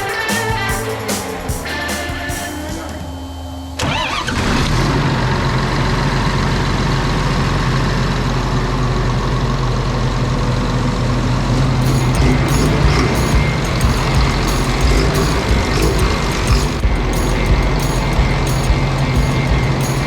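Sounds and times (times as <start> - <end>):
tractor diesel engine starting and running: 3.2 - 20.0.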